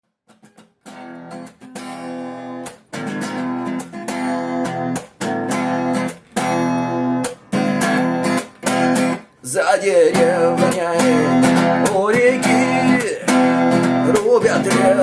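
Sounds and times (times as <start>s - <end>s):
guitar strumming chords: 0.3s - 15.0s.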